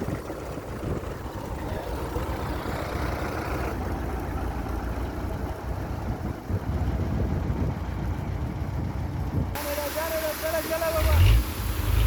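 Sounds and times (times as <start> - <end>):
heavy diesel machinery rumbling: 0.0 - 12.0.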